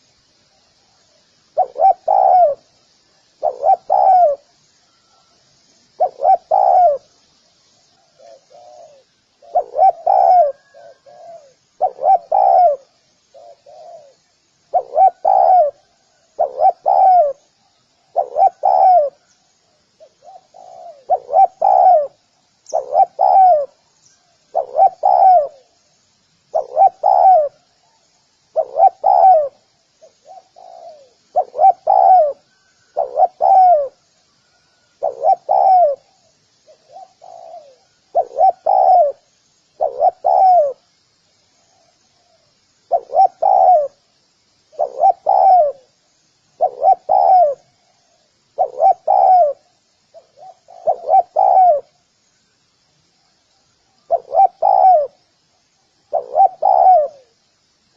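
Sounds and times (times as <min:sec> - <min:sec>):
faint high bird chirps: 0:00.0 - 0:57.9
dove cooing: 0:01.6 - 0:02.7, 0:03.4 - 0:05.3, 0:06.0 - 0:07.1, 0:08.0 - 0:19.3, 0:20.0 - 0:23.9, 0:24.5 - 0:25.8, 0:26.5 - 0:40.9, 0:41.8 - 0:44.0, 0:44.7 - 0:46.0, 0:46.6 - 0:52.0, 0:54.0 - 0:55.3, 0:56.1 - 0:57.4.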